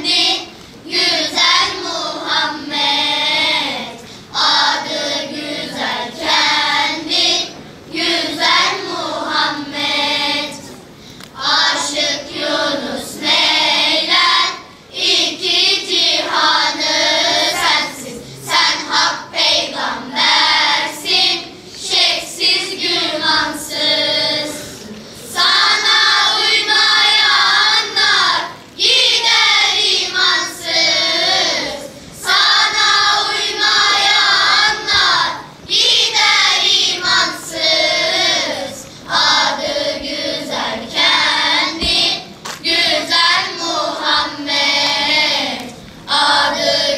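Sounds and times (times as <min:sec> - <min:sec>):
children's choir singing: 0:00.0 - 0:46.9.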